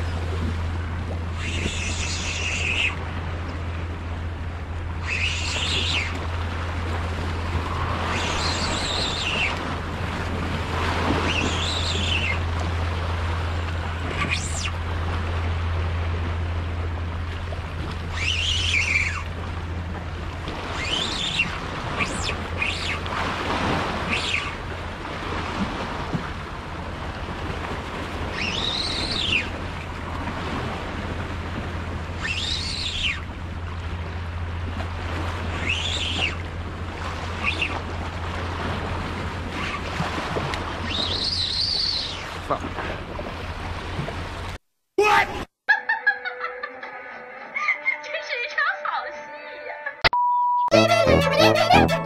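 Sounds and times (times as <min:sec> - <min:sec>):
seabird calling: 0:00.0 - 0:25.2, 0:27.4 - 0:42.7, 0:50.7 - 0:52.0
sea water lapping: 0:00.0 - 0:44.6.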